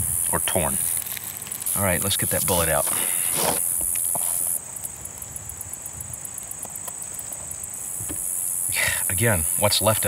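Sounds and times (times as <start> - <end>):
insects trilling: 0.0 - 10.0
faint handling ticks: 0.2 - 10.0.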